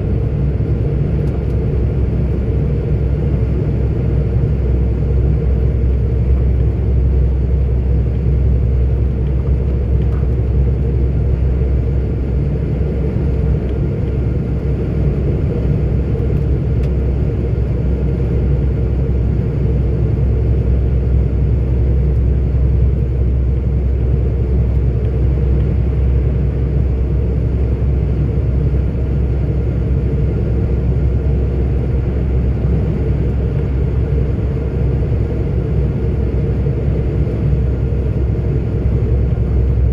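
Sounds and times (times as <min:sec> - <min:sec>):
lorry engine and road noise: 0:00.0 - 0:39.9.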